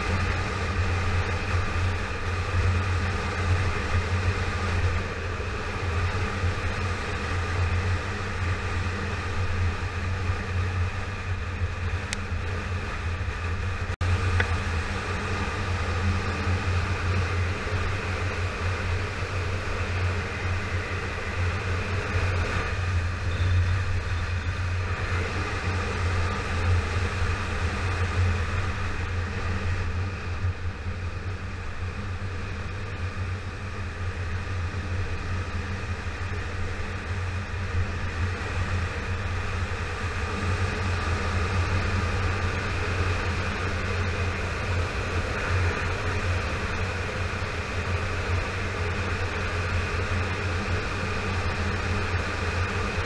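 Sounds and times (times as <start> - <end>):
motorcycle engine cruising: 0.0 - 53.0
road noise: 0.0 - 53.0.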